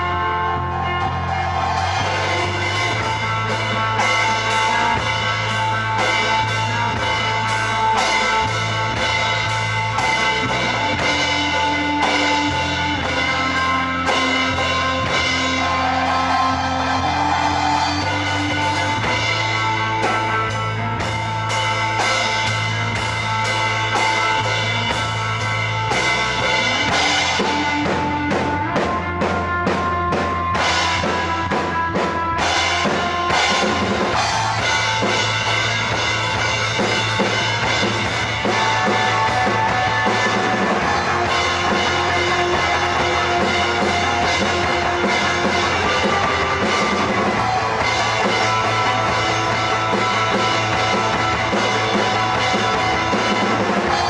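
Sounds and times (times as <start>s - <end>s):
droning electric guitars: 0.0s - 54.0s
drum kit drumming: 0.0s - 54.0s.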